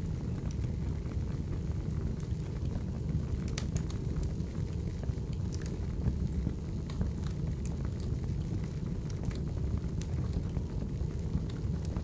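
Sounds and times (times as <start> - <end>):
fire crackling and popping: 0.0 - 12.0.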